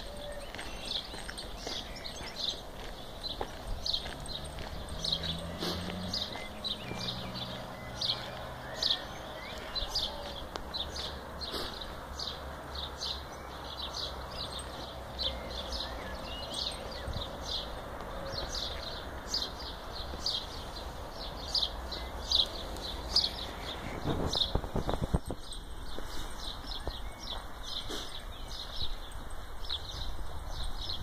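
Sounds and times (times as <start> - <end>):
rustle: 0.0 - 31.0
small bird chirping: 0.0 - 31.0.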